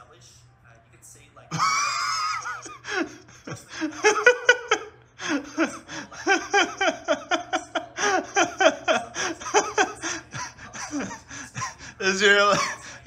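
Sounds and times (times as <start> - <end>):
person laughing: 1.5 - 13.0.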